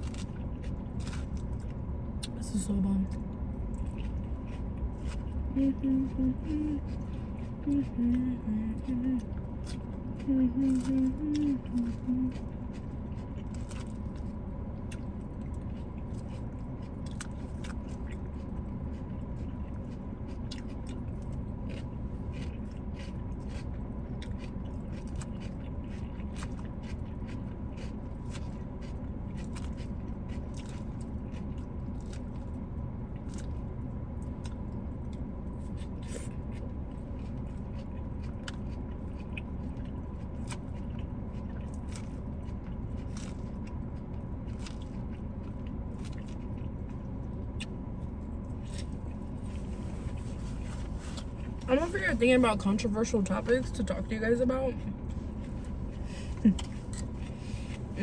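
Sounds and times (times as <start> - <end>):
chewing and crunching salad: 0.0 - 58.0
low hum: 0.0 - 58.0.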